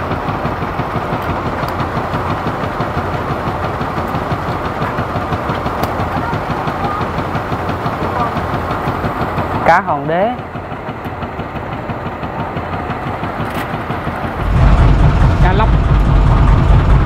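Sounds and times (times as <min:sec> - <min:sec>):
boat engine chugging: 0:00.0 - 0:17.0.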